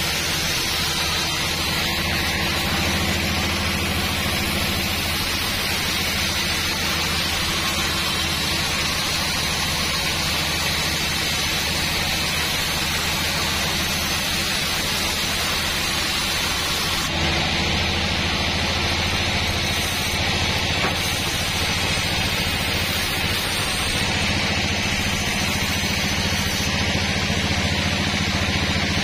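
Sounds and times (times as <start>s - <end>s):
band saw cutting log: 0.0s - 29.0s
motor hum: 0.0s - 29.0s.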